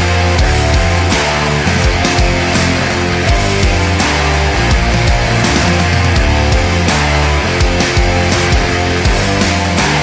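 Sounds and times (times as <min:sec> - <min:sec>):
rock music with steady beat: 0:00.0 - 0:10.0.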